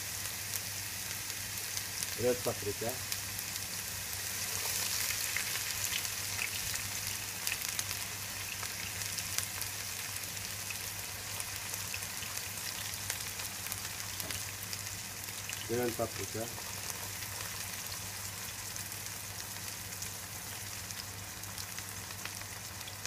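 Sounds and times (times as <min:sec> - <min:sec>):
onion sizzling in oil: 0:00.0 - 0:23.0.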